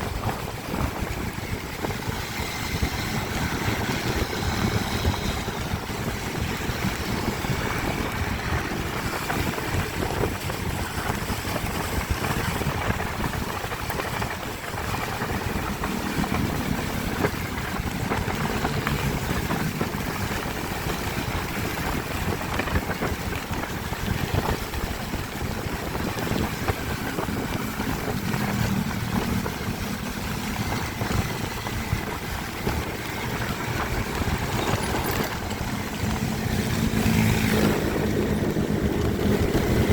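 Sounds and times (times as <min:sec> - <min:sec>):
motorbike engine running: 0:00.0 - 0:39.9
wind rushing over microphone: 0:00.0 - 0:39.9.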